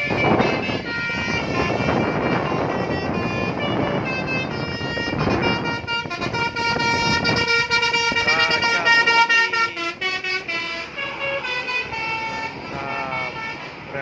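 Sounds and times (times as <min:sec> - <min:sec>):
multi-tone musical bus horn: 0:00.0 - 0:14.0
steady rushing noise: 0:00.0 - 0:14.0.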